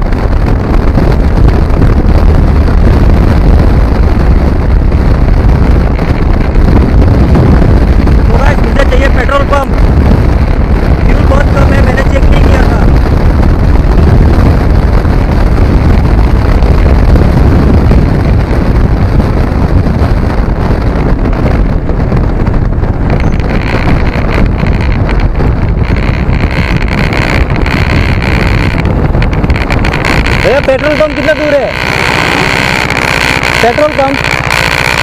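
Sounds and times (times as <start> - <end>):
motorcycle engine running: 0.0 - 35.0
wind rushing over microphone: 0.0 - 35.0.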